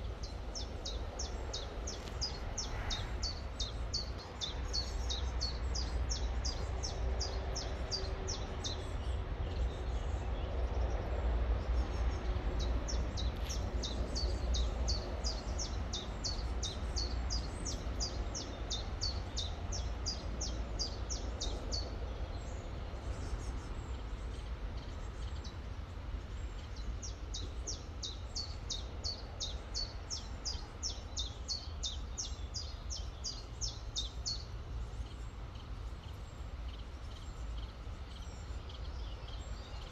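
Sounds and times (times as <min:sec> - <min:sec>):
songbird chirping: 0:00.0 - 0:08.8, 0:11.8 - 0:22.4, 0:26.3 - 0:39.9.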